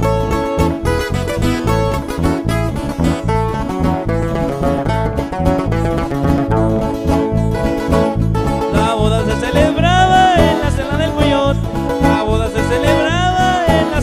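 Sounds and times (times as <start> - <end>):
high melodic line: 0.0 - 14.0
live band music: 0.0 - 14.0.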